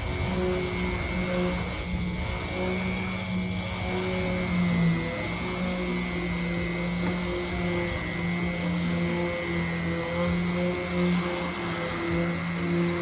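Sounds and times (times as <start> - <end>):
power sander on paint: 0.0 - 13.0.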